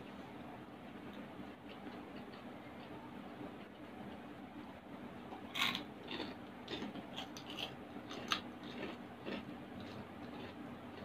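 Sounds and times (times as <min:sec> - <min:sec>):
chewing food with crisp crunches: 0:01.0 - 0:04.3, 0:05.4 - 0:11.0.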